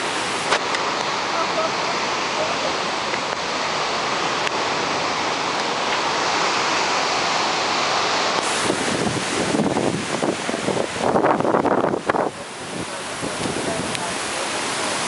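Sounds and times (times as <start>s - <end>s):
storm wind blowing: 0.0s - 15.0s.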